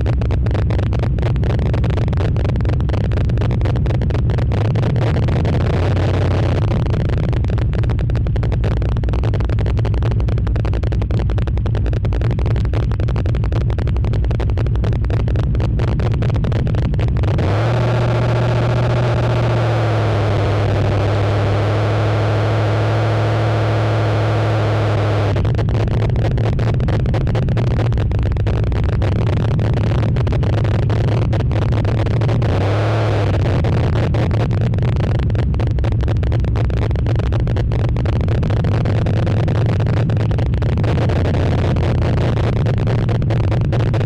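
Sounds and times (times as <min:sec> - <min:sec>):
engine with choppy pulsing: 0:00.0 - 0:44.0
steady engine drone: 0:00.0 - 0:44.0.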